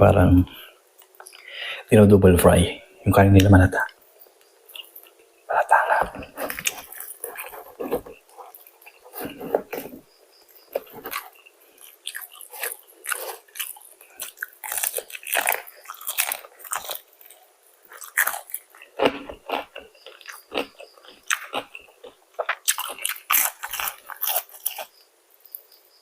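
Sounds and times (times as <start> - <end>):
crunchy chewing of fried chicken: 4.4 - 26.0.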